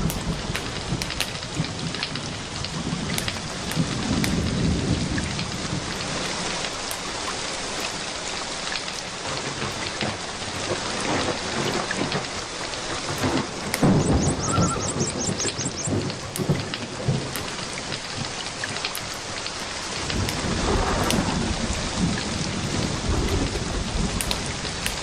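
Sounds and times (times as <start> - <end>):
rolling thunder rumble: 0.0 - 6.8, 9.2 - 25.0
steady rain: 0.0 - 25.0
wood fire crackling: 0.0 - 25.0.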